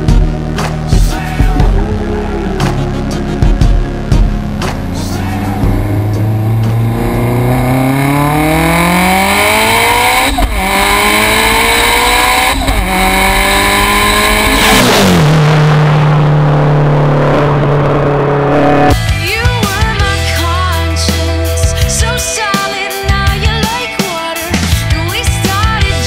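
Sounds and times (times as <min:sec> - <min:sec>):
turbocharged engine accelerating: 0:00.0 - 0:22.2.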